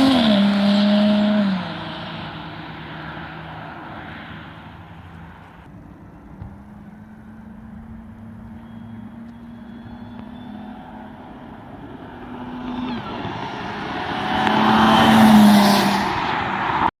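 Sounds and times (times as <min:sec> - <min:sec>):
car engine exhaust drone: 0:00.0 - 0:16.9.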